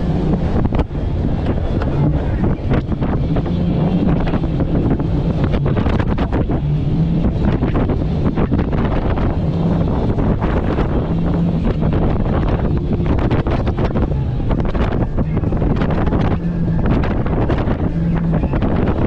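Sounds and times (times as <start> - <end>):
boat outboard motor running: 0.0 - 19.0
wind buffeting microphone: 0.0 - 19.0.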